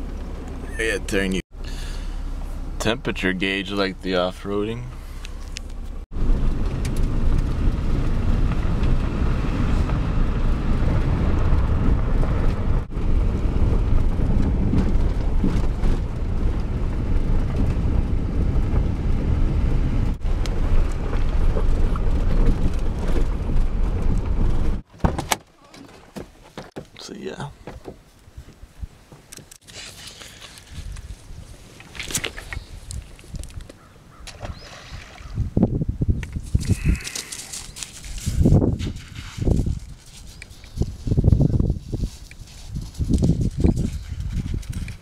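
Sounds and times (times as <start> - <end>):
vehicle engine and tyres rumbling: 0.0 - 25.4, 26.0 - 34.6, 35.3 - 45.0.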